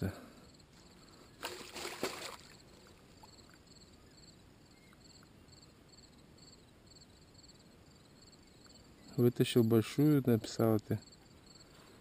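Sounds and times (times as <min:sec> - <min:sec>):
crickets chirping: 0:00.2 - 0:12.0.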